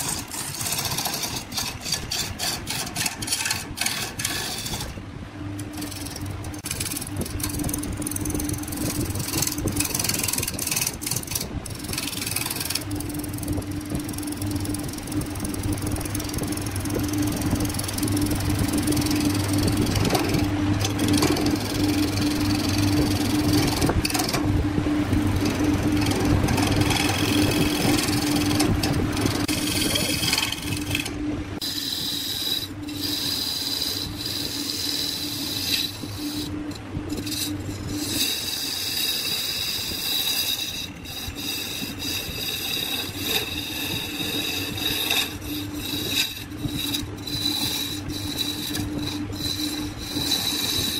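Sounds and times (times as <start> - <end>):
turning tool scraping wood: 0.0 - 50.9
wood lathe running: 0.0 - 50.9.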